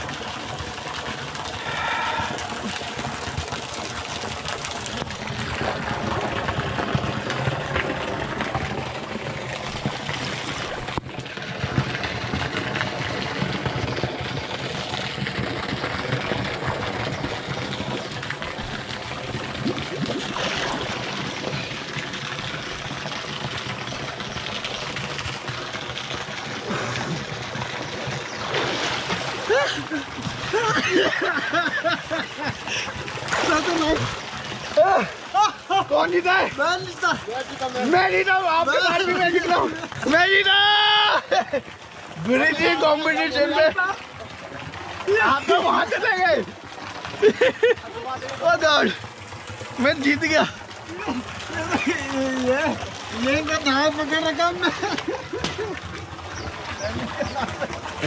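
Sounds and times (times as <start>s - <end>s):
pool water sloshing: 0.0s - 58.0s.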